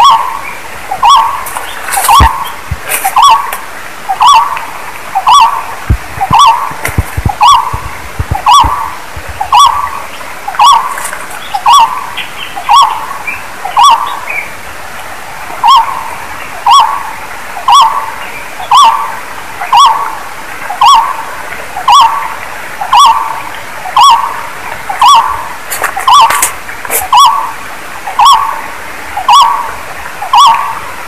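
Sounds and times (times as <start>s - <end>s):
barbet calling: 0.0s - 14.5s, 15.6s - 28.6s, 29.2s - 30.9s.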